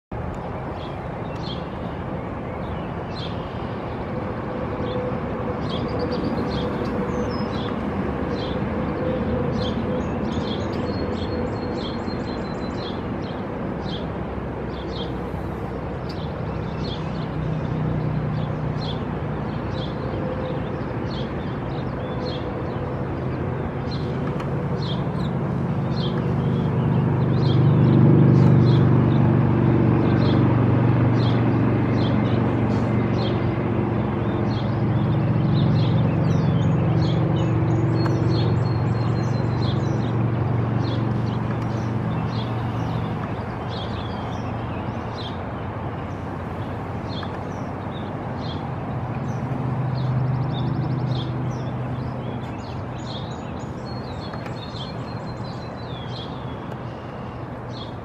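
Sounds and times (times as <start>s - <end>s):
low engine drone: 0.1s - 58.0s.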